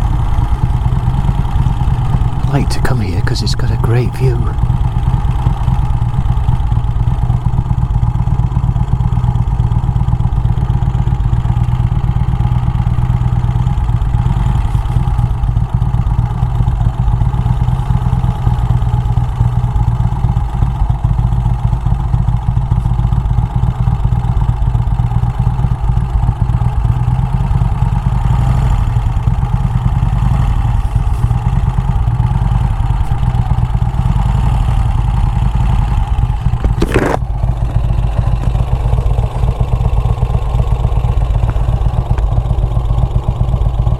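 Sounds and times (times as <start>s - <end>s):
motorcycle engine running: 0.0s - 2.5s, 4.4s - 43.9s.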